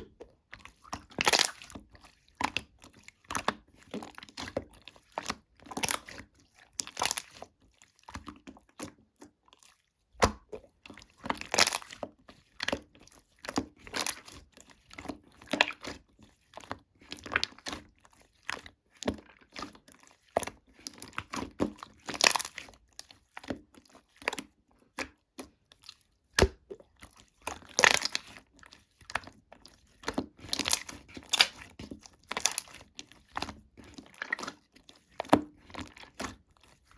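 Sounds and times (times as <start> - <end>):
slime crackling and squishing: 0.0 - 36.9.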